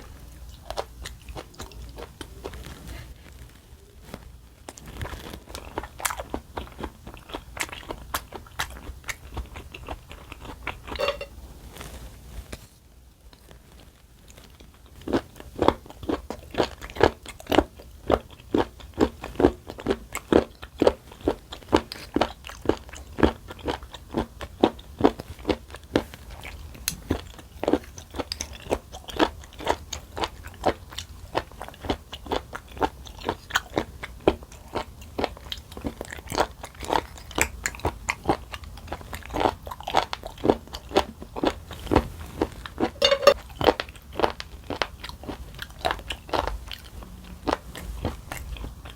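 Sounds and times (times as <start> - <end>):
crunchy food chewing: 0.0 - 12.0, 13.3 - 48.9.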